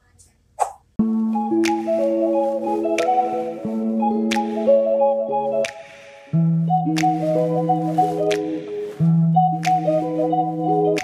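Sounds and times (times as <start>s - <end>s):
background music melody: 1.0s - 11.0s.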